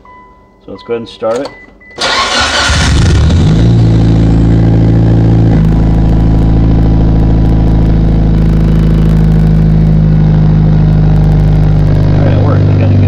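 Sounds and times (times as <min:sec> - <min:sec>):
car engine idling: 0:02.0 - 0:13.0.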